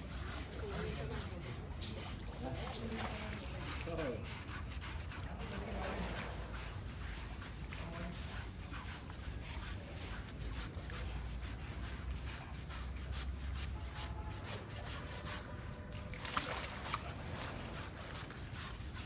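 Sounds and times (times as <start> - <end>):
scrubbing rasping rub on skin: 0.0 - 19.0.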